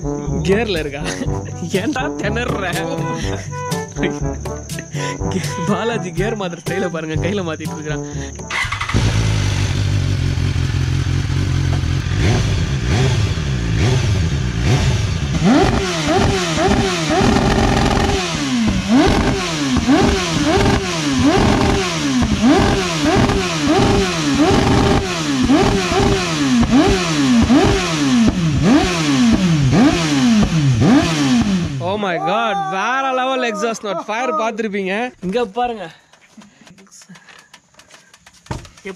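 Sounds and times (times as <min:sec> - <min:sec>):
motorcycle engine idling and revving: 0:00.0 - 0:04.6, 0:05.3 - 0:32.2.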